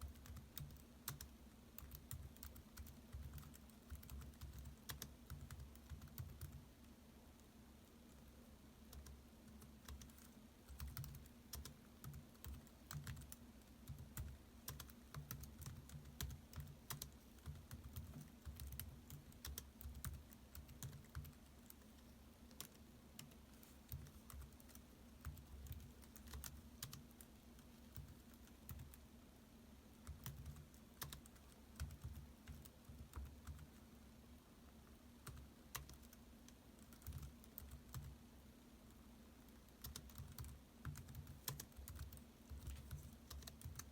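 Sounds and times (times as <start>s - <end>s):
typing on laptop keyboard: 0.0s - 6.9s, 8.8s - 29.0s, 29.9s - 33.8s, 35.1s - 38.2s, 39.4s - 43.9s
faint low hum: 0.0s - 43.9s.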